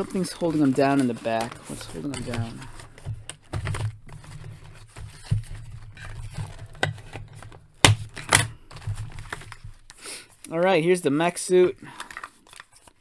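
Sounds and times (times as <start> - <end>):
plastic toy and cardboard handled: 0.0 - 10.8, 11.4 - 13.0.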